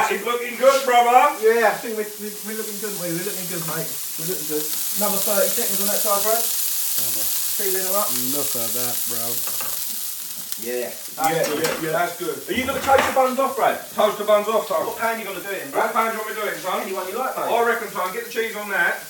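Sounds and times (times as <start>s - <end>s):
burger patty sizzling: 0.0s - 19.0s.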